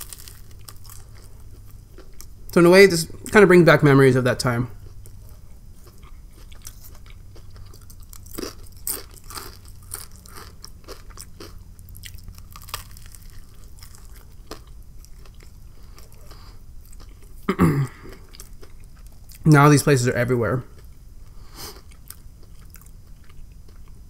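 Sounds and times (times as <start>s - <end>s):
chewing with crunches: 0.0s - 2.4s, 4.7s - 19.4s, 20.7s - 24.0s.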